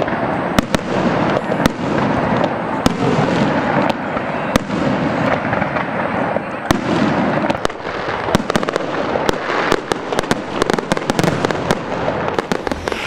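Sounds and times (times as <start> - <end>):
crackling firework stars: 0.0 - 13.0
firework shells bursting: 0.0 - 13.0.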